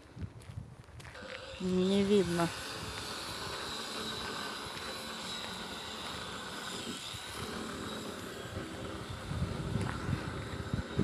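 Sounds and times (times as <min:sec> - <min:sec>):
distant engine drone: 0:01.1 - 0:11.0.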